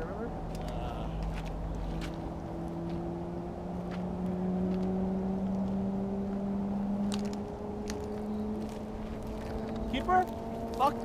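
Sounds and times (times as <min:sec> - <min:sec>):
distant engine humming: 0:00.0 - 0:11.0.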